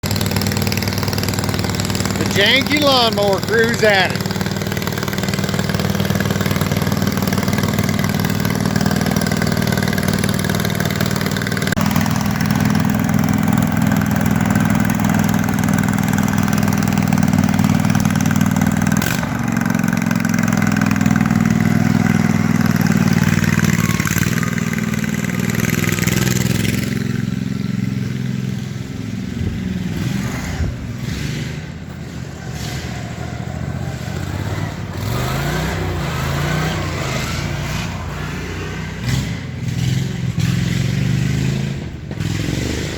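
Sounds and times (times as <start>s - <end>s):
lawnmower engine revving: 0.0s - 42.9s.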